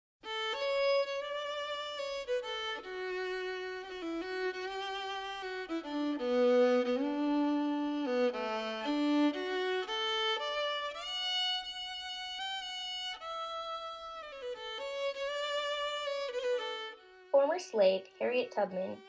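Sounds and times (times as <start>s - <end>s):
slow sliding violin melody: 0.2s - 19.0s.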